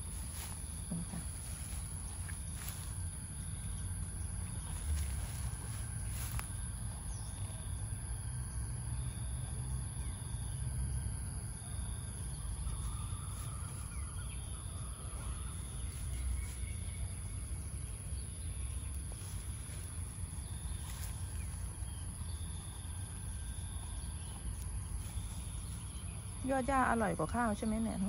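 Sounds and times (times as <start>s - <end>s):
insect chirps: 0.0s - 28.0s
insects droning: 0.0s - 28.0s.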